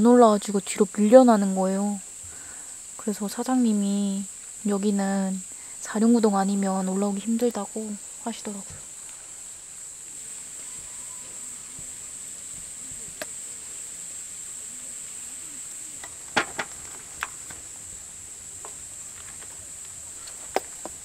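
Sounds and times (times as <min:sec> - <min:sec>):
insects chirping chorus: 0:00.0 - 0:21.0.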